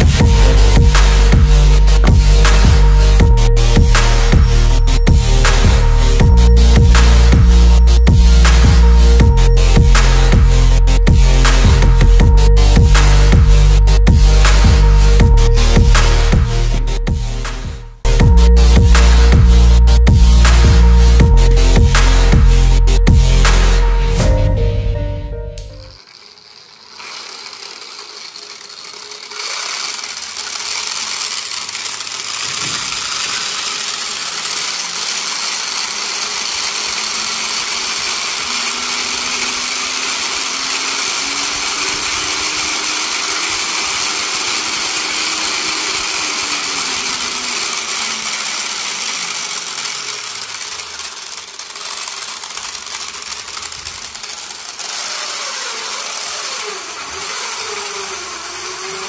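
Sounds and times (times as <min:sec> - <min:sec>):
motor and gearbox whining: 0:00.0 - 0:59.0.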